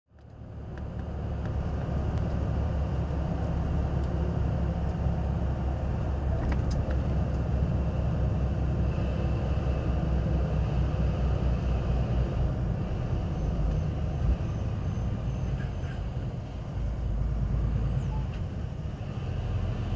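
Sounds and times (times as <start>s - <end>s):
low engine hum: 0.1s - 19.9s
road and tyre noise: 0.1s - 19.9s.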